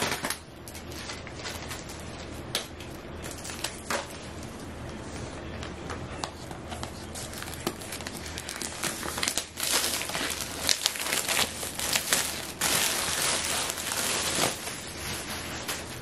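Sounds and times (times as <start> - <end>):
plastic shrink wrap crinkling: 0.0 - 4.7, 6.7 - 16.0.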